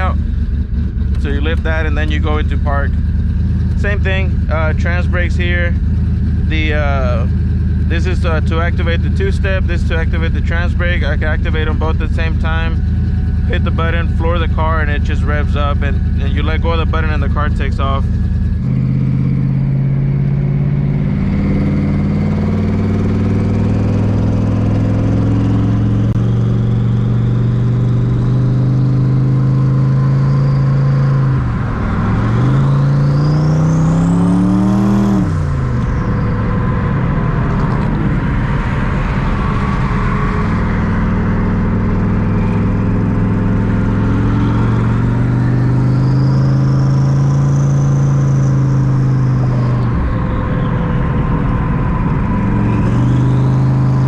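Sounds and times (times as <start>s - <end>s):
car engine running and revving: 0.0s - 54.0s.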